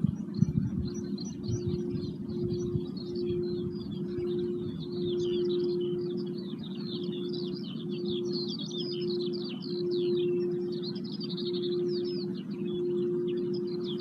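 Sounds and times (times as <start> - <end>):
low humming tone: 0.0 - 14.0
songbirds chirping and trilling: 0.0 - 14.0.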